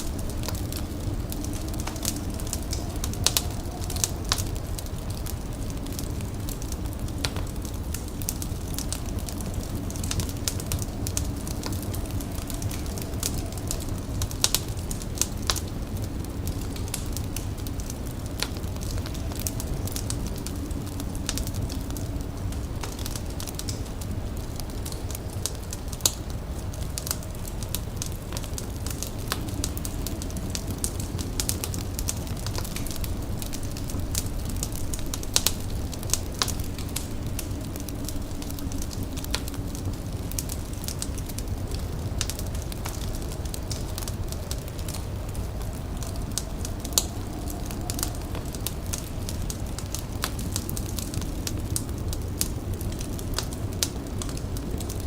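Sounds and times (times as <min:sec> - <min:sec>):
steady low rumble: 0:00.0 - 0:55.0
wood fire crackling and popping: 0:00.0 - 0:55.0.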